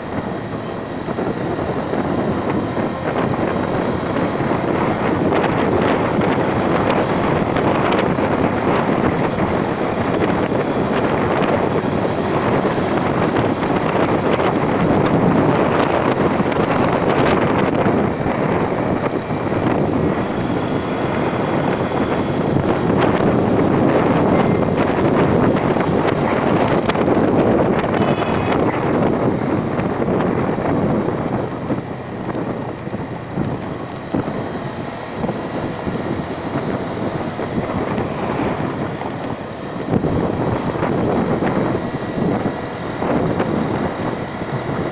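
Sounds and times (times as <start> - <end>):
vehicle running: 0.0 - 44.9
wind rushing over microphone: 0.0 - 44.9.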